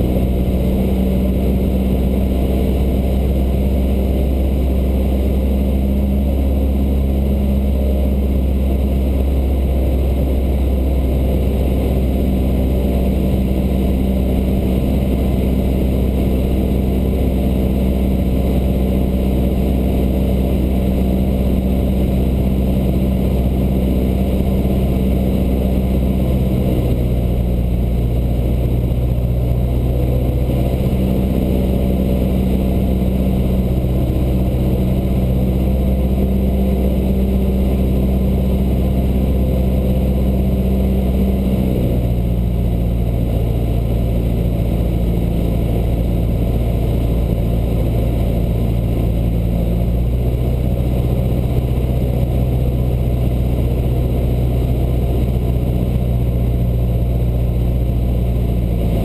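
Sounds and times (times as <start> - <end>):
airplane engine and propeller droning: 0.0 - 59.0.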